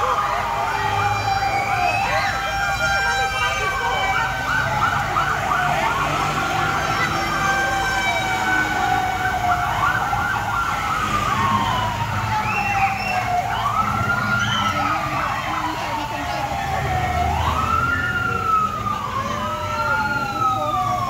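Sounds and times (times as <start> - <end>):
fire truck siren wailing: 0.0 - 21.0.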